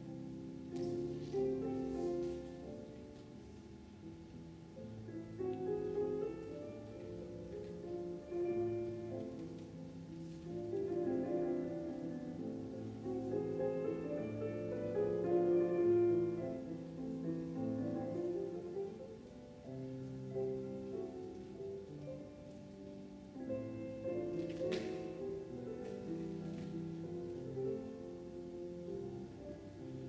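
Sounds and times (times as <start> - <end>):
slow classical piano: 0.0 - 30.0.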